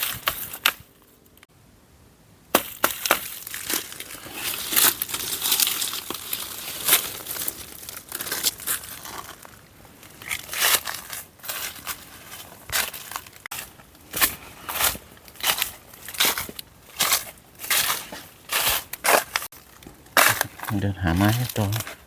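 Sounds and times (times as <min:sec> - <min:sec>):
footsteps crunching dry leaves: 0:02.6 - 0:22.0.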